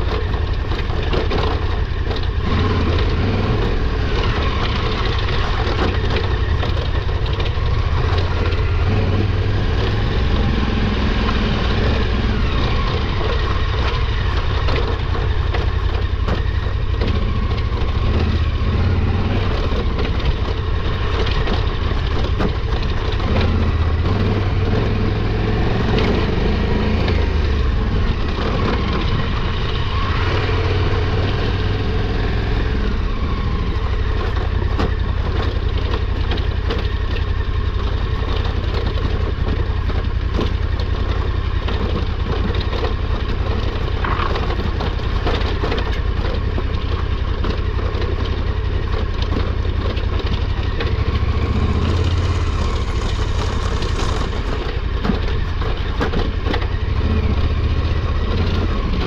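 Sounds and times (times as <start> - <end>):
motorcycle engine running at low revs: 0.0 - 59.0.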